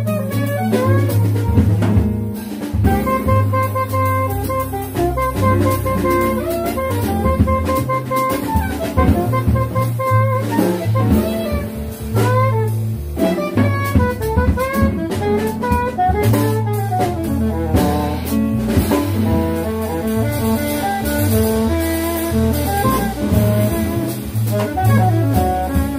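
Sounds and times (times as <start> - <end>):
alto saxophone melody: 0.0 - 25.9
drum kit with cymbals: 0.0 - 25.9
piano: 0.0 - 25.9
walking upright bass: 0.0 - 25.9.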